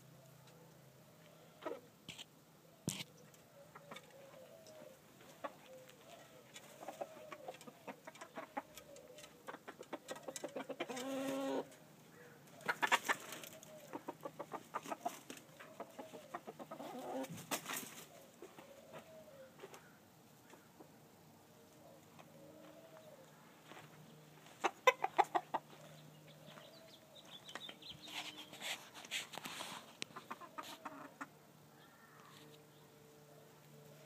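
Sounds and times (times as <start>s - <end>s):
chickens clucking: 1.2s - 2.2s, 3.0s - 32.5s.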